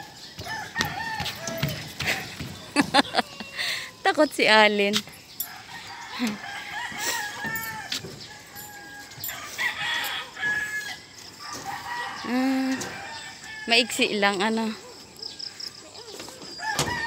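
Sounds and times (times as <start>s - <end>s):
roosters crowing: 0.0s - 4.0s, 5.4s - 14.6s, 16.0s - 17.0s.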